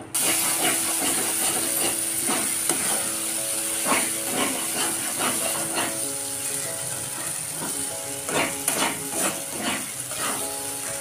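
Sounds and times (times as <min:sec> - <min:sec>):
paste sizzling in oil: 0:00.1 - 0:11.0
spatula scraping pan: 0:00.2 - 0:11.0.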